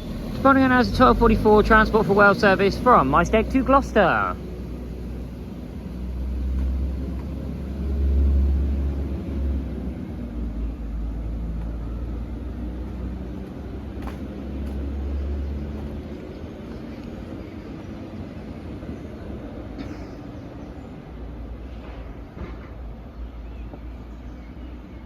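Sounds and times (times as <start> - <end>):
diesel train engines rumbling: 0.0 - 25.0.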